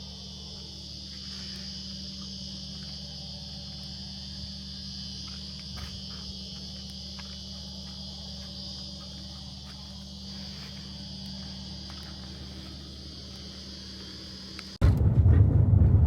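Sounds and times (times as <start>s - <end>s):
insects chirring: 0.0s - 14.8s
low hum: 0.0s - 16.0s.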